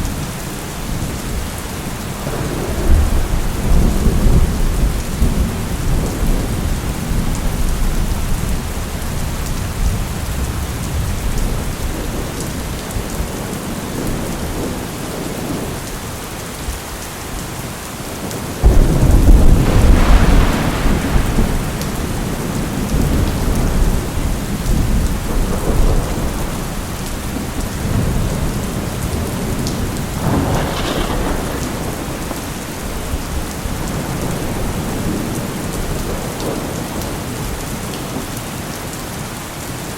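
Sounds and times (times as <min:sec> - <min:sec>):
thunder rumbling: 0:00.0 - 0:16.8, 0:17.6 - 0:38.3
steady rain: 0:00.0 - 0:39.9.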